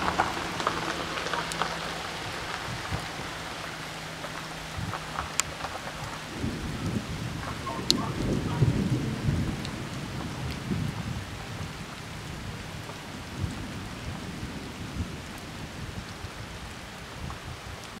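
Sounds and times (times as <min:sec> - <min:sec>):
rain falling: 0:00.0 - 0:18.0
thunder rumble: 0:00.0 - 0:18.0.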